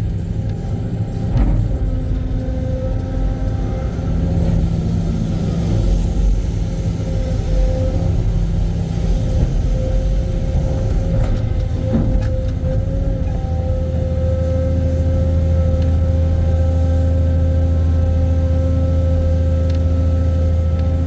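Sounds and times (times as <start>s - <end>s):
excavator engine rumbling: 0.0s - 21.0s.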